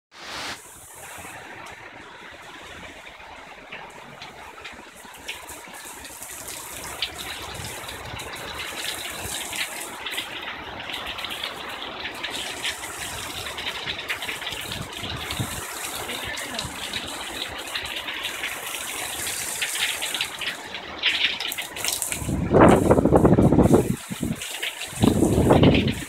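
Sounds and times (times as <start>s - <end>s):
heavy rain: 0.1s - 26.0s
water gushing off roof: 0.2s - 26.0s.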